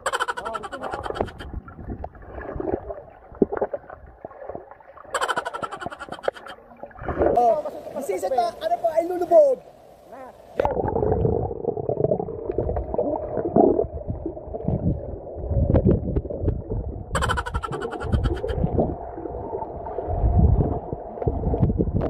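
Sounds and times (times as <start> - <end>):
muffled underwater water rumble: 0.0 - 8.1, 10.0 - 22.0
water bubbling: 0.0 - 8.2, 10.2 - 22.0.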